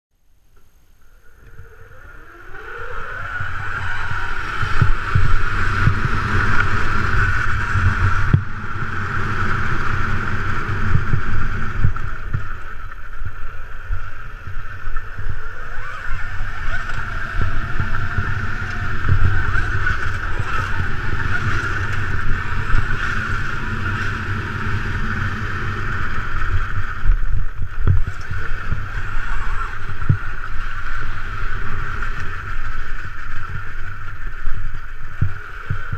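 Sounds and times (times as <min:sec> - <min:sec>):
electric motorbike motor whine: 0:00.6 - 0:35.9
wind buffeting: 0:01.0 - 0:35.9.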